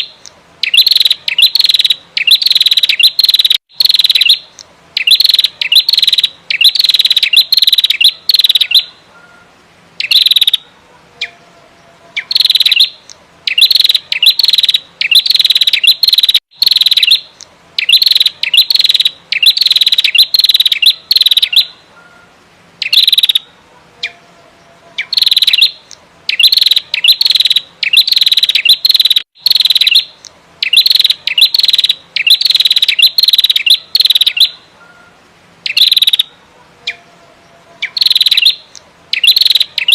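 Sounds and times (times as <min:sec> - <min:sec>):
bird calling rapid high notes: 0:00.0 - 0:11.5, 0:12.1 - 0:24.2, 0:25.0 - 0:37.1, 0:37.8 - 0:39.9.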